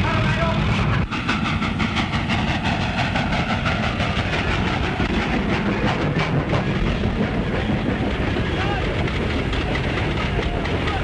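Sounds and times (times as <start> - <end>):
train wheels clattering: 0.0 - 11.0.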